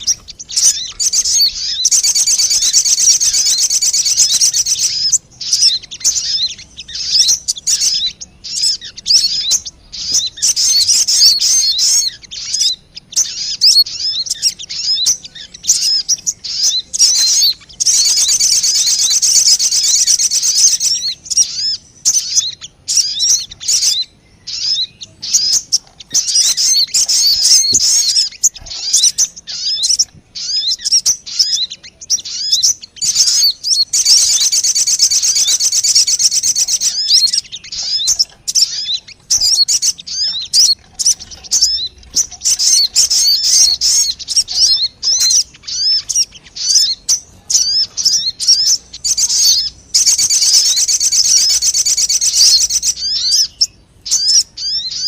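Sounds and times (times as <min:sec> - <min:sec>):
bird chirping and twittering: 0:00.0 - 0:55.0.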